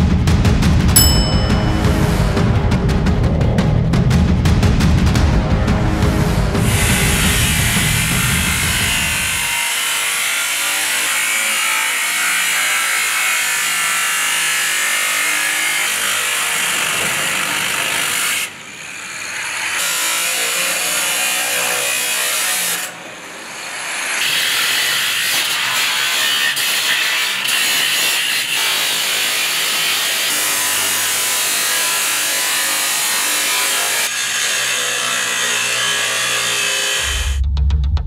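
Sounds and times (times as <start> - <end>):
angle grinder cutting steel: 6.7 - 37.4.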